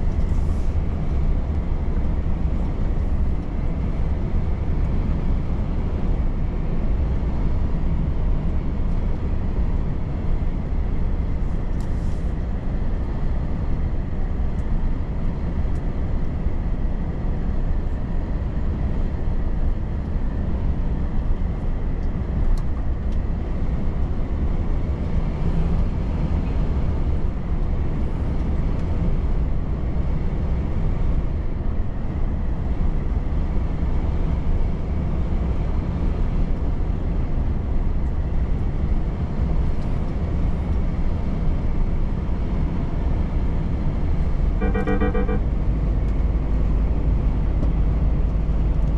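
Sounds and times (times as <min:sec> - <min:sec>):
road rumble: 0:00.0 - 0:48.9
truck engine drone: 0:00.0 - 0:48.9.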